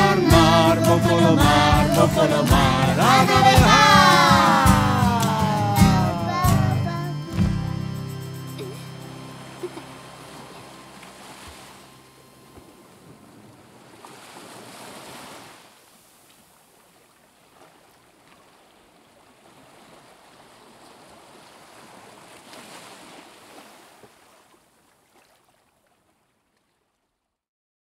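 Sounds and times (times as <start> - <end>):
faint sea waves washing: 0.0 - 7.4, 8.0 - 27.0.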